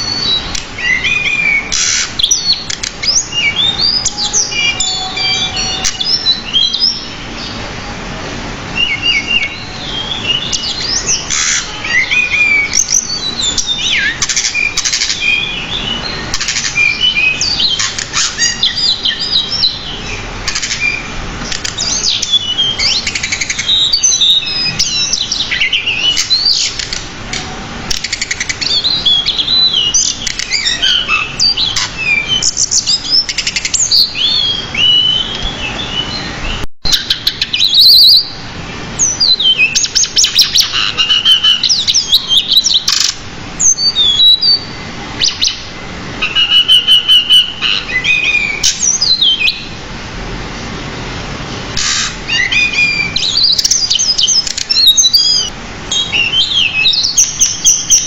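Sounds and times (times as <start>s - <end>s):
bird singing chirps and trills: 0.0s - 49.8s, 51.5s - 58.0s.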